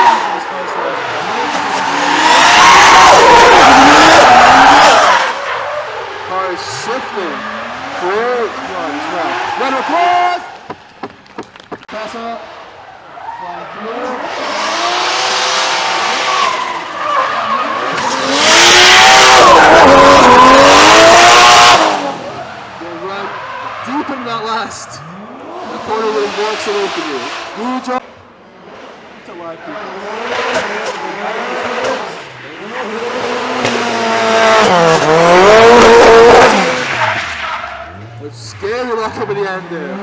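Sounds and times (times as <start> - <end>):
car engine revving: 0.0 - 11.2, 11.9 - 40.0
tyres screeching: 0.0 - 28.2, 29.4 - 40.0.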